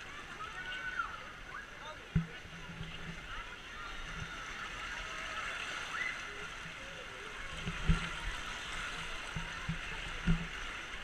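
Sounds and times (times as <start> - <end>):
surf and moving water: 0.0 - 11.0.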